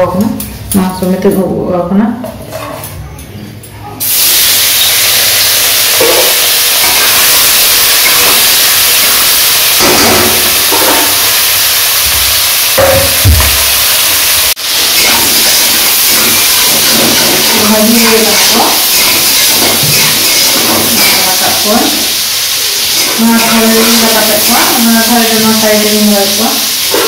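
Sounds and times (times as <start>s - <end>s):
prawns sizzling in hot oil: 4.0s - 27.0s.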